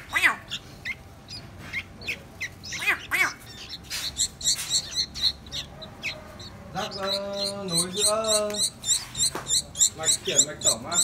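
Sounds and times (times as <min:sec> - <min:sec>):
chicks squawking: 0:00.0 - 0:11.0
high chirps: 0:00.4 - 0:11.0.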